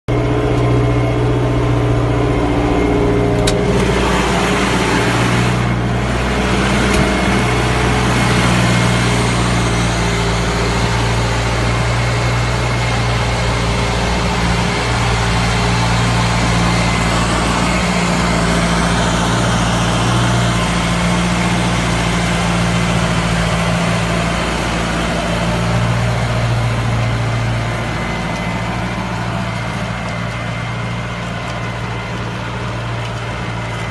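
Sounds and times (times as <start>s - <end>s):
tractor engine droning: 0.1s - 33.9s
broad rushing noise: 0.8s - 33.9s.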